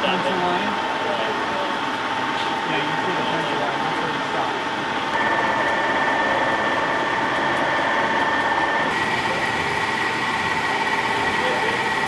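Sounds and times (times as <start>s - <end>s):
metal lathe whining: 0.0s - 12.0s.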